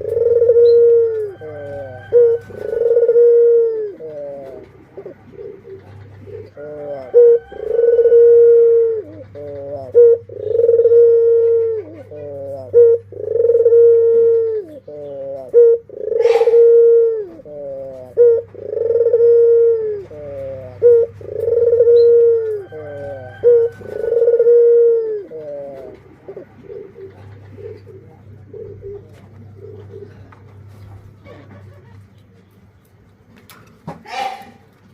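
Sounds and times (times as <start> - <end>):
dove cooing: 0.0 - 32.4, 34.0 - 34.7.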